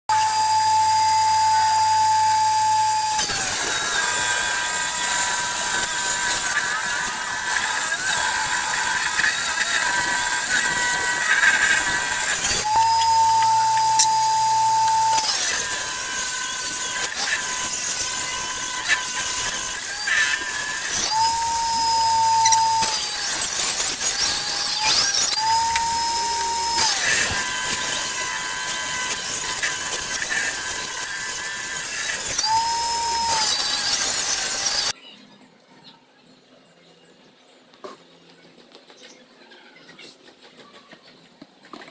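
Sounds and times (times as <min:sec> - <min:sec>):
power tool cutting into wood: 0:00.1 - 0:35.0
power tool motor whining: 0:00.1 - 0:35.0.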